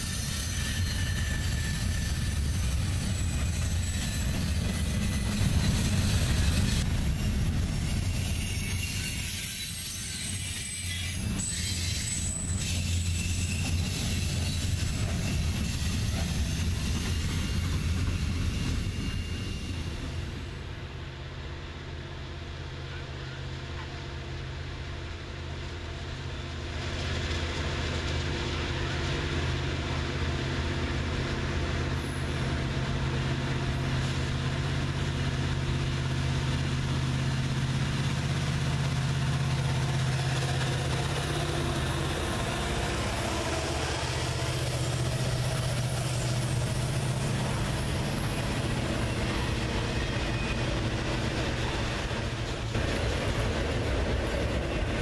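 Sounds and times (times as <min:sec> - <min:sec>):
diesel locomotives droning: 0:00.0 - 0:55.0
train cars rumbling on rails: 0:00.0 - 0:55.0.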